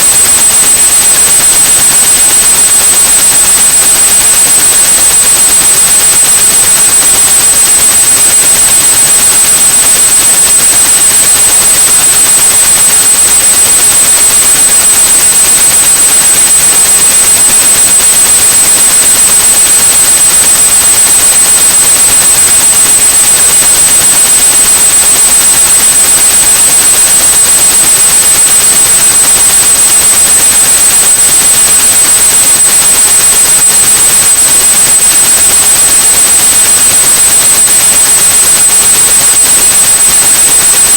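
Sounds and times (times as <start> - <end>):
high-pitched steady tone: 0.0 - 38.5.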